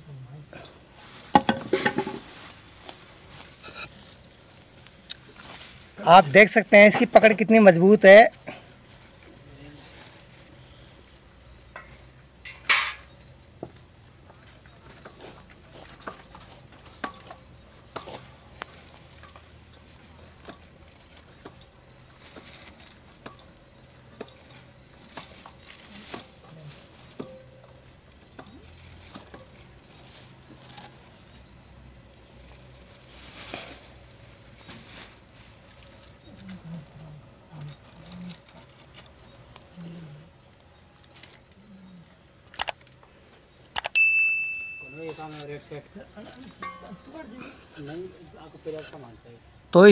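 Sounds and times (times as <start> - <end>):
cricket trilling: 0.0 - 49.9.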